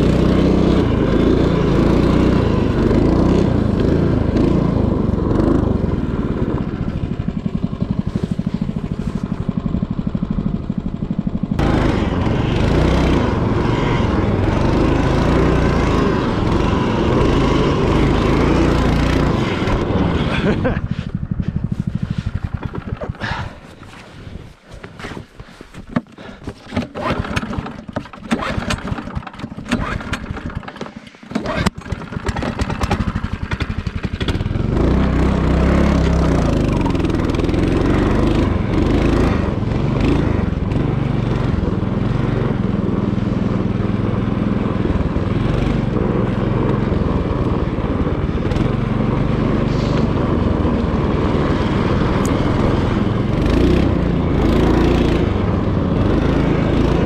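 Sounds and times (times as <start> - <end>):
small engine running: 0.0 - 25.2, 25.9 - 57.0.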